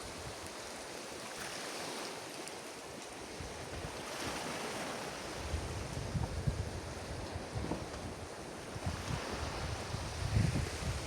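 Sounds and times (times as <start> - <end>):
waves washing on a beach: 0.0 - 11.0.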